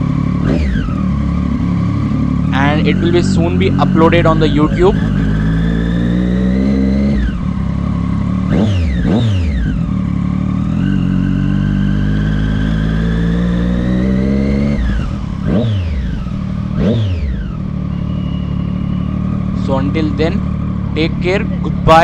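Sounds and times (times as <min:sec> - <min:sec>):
motorcycle engine pulling away: 0:00.0 - 0:22.0
motorcycle engine revving: 0:00.0 - 0:22.0.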